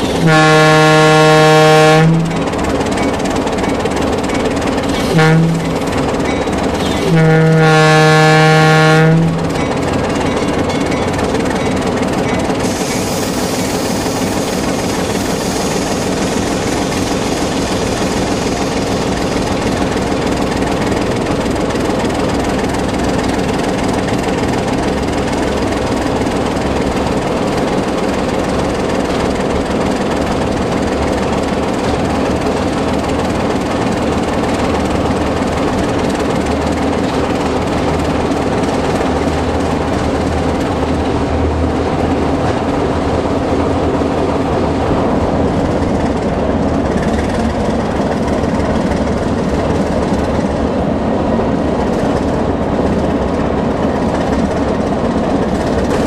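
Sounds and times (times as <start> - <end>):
diesel locomotive engine running: 0.0 - 56.0
wheels rumbling on rails: 0.0 - 56.0.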